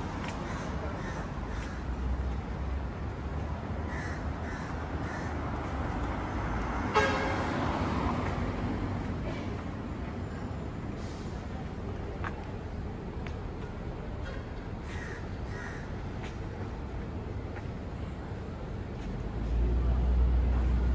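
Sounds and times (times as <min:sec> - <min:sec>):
low street noise: 0:00.0 - 0:20.9.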